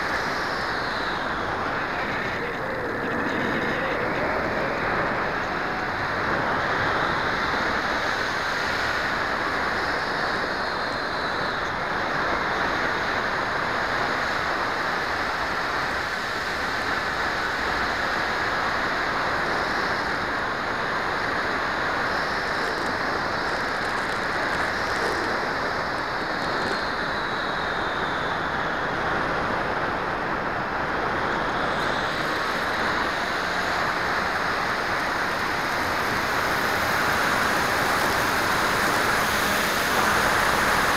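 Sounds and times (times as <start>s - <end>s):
faint high whine: 0.0s - 40.9s
rushing wind on microphone: 0.0s - 40.9s.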